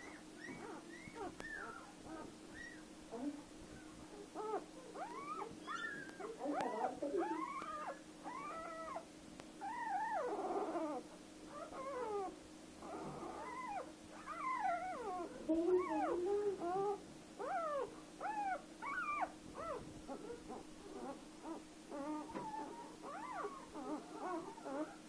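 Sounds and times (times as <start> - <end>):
puppy squealing: 0.0 - 9.0, 9.6 - 25.0.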